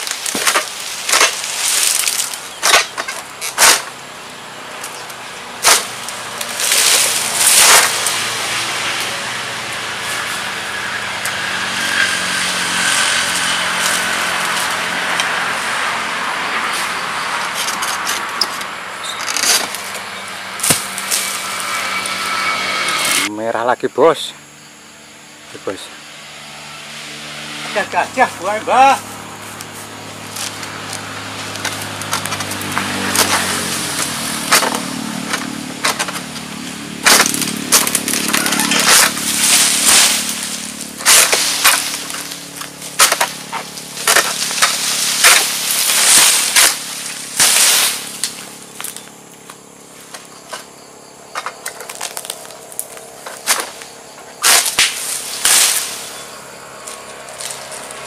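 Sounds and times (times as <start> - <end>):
sickle hacking through palm stalk: 0.0 - 16.0, 16.6 - 23.3, 26.9 - 50.7, 51.3 - 58.0
frond rustling: 0.0 - 23.3, 26.9 - 58.0.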